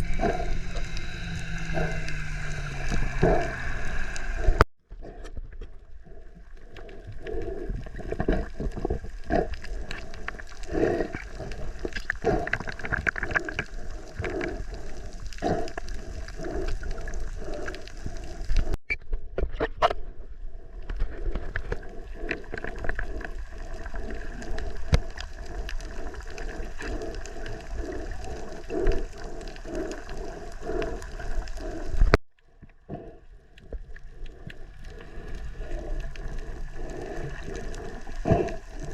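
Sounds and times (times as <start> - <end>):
water sloshing and gurgling underwater: 0.0 - 38.9.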